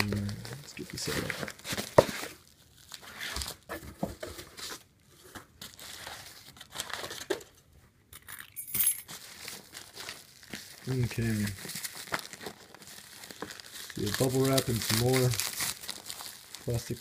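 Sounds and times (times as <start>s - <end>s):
bubble wrap crinkling and rustling: 0.0s - 7.6s, 9.1s - 17.0s.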